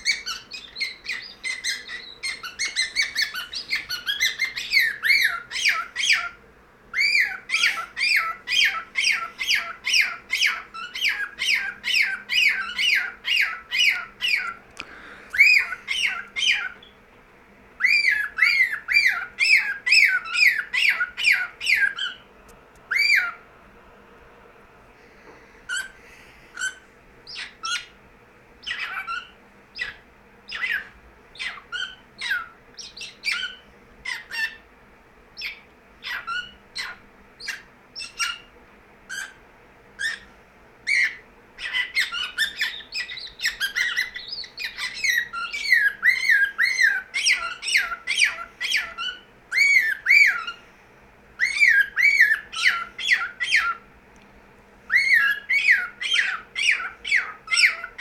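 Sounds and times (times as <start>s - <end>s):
bird squawking and chirping: 0.0s - 14.6s, 15.3s - 17.0s, 17.8s - 22.3s, 22.9s - 23.4s, 25.7s - 28.0s, 28.6s - 34.7s, 35.4s - 38.5s, 39.1s - 39.4s, 40.0s - 40.3s, 40.9s - 50.6s, 51.4s - 53.8s, 54.9s - 58.0s.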